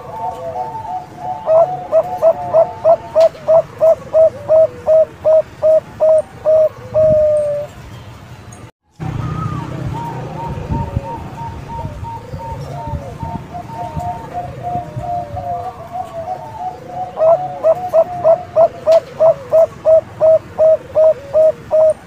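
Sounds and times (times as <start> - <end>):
doves cooing: 0.0 - 7.8, 9.1 - 22.0.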